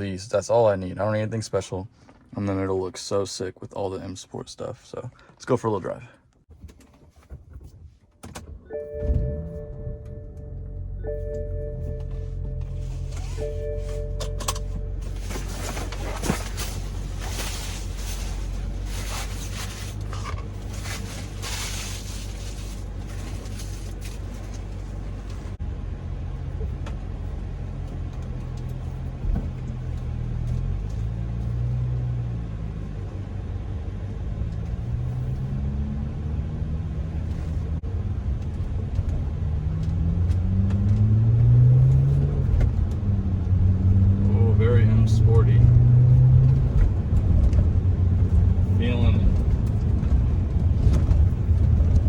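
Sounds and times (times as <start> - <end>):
car engine humming inside cabin: 8.5 - 52.0.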